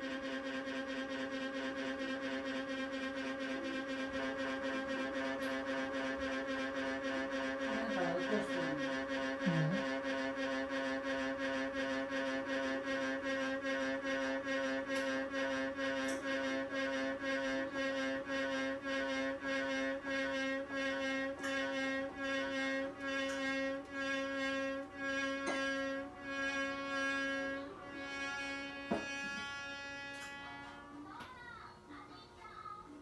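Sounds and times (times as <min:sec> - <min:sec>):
pulsing machine whine: 0:00.0 - 0:31.3.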